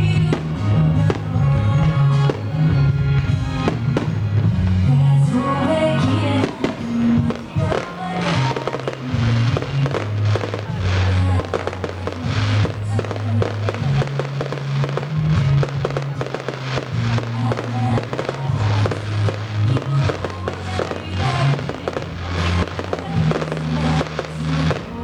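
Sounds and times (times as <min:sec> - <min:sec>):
fireworks popping and crackling: 0:00.0 - 0:25.0
music with low bass line: 0:00.0 - 0:25.0.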